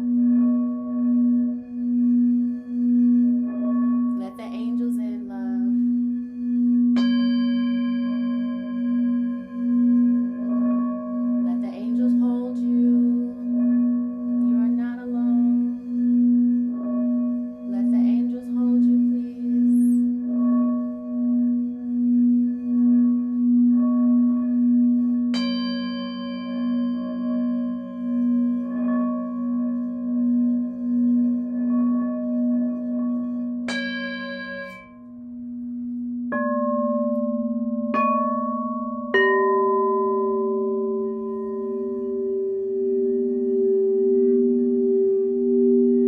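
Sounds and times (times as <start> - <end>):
singing bowl pulsing tone: 0.0 - 46.0
struck bowl ringing: 0.0 - 46.0.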